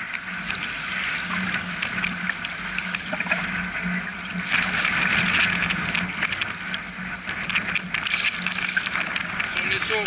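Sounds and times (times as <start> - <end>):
sea water splashing: 0.0 - 10.0.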